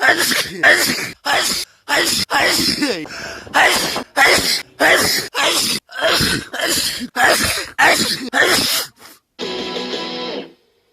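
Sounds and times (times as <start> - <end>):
person sneezing: 0.0 - 9.2.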